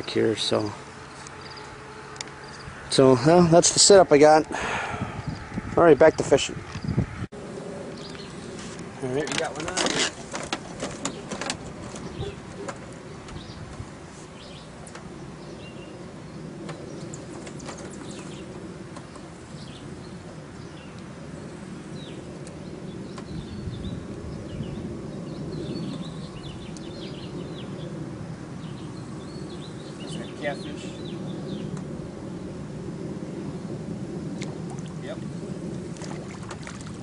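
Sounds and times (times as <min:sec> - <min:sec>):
birds chirping: 0:00.0 - 0:37.0
steady low rumble: 0:00.0 - 0:37.0.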